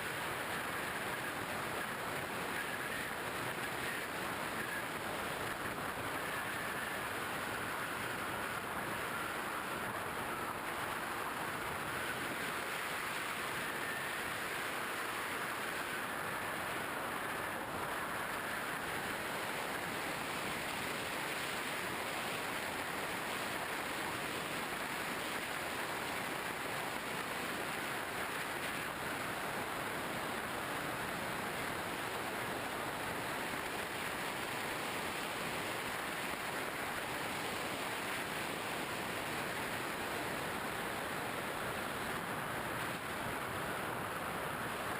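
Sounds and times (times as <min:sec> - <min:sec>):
rushing wind noise: 0:00.0 - 0:44.9.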